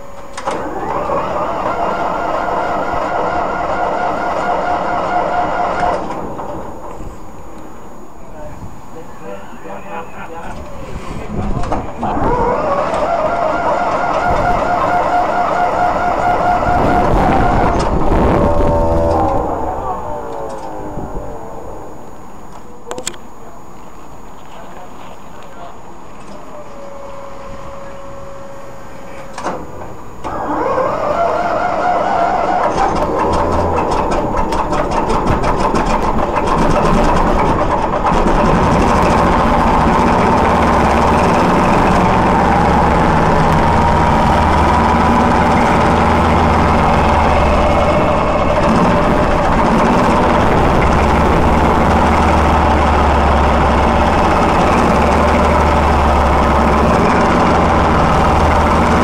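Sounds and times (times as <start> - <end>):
diesel engine cranking and running: 0.0 - 25.0, 27.7 - 59.0.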